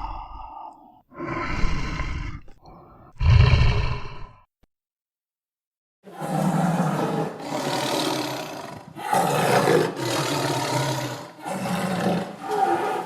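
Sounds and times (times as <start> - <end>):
tiger roaring: 0.0 - 4.4, 6.1 - 13.0.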